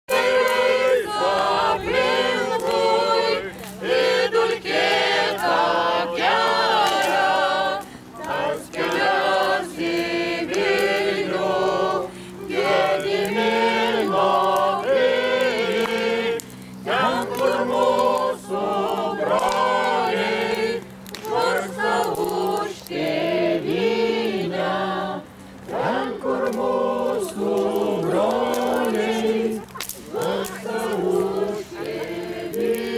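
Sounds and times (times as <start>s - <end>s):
group singing without instruments: 0.1s - 32.9s.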